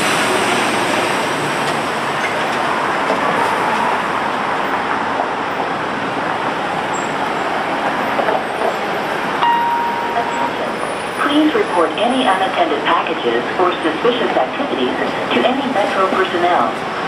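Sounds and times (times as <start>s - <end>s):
passing street traffic: 0.0s - 17.0s.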